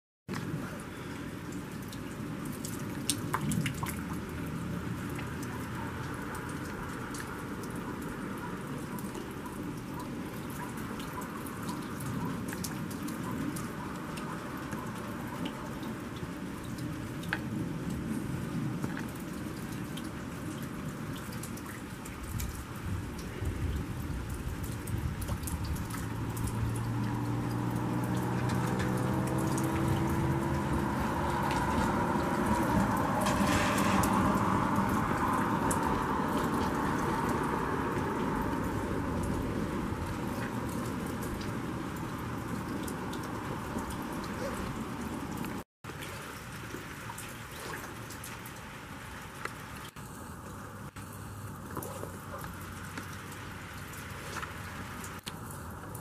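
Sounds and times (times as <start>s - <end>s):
light rain pattering: 0.3s - 56.0s.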